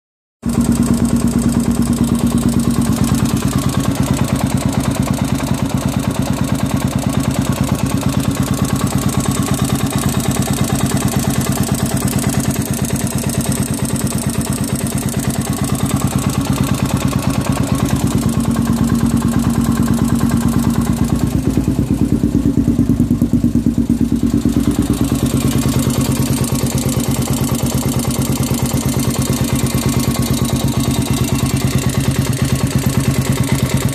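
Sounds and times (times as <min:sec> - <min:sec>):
engine knocking and ticking: 0:00.4 - 0:33.9
motorcycle engine idling: 0:00.4 - 0:33.9.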